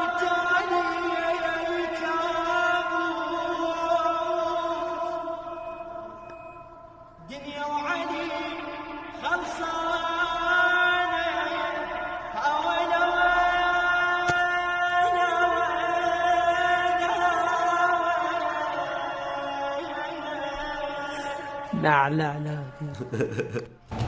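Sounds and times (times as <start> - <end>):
man singing with echo: 0.0 - 24.0.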